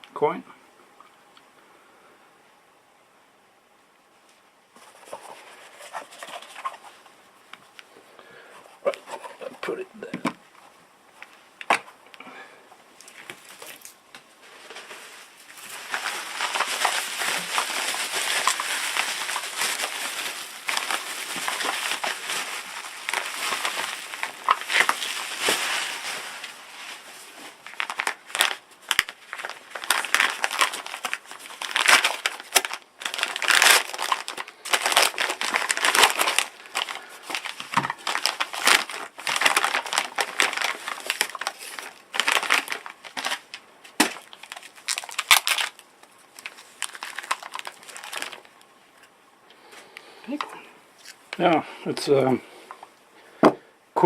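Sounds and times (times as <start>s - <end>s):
packing material crinkling: 4.8s - 12.2s, 13.0s - 52.8s.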